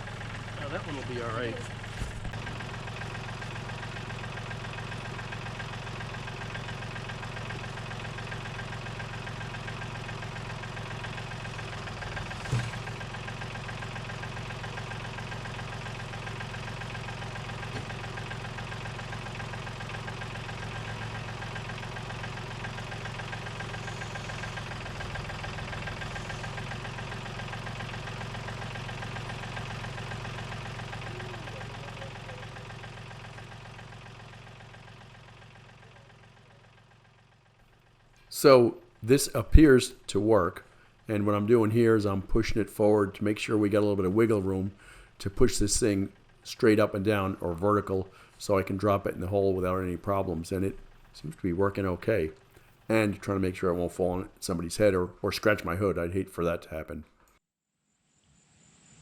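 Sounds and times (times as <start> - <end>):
tractor engine idling: 0.0 - 57.4.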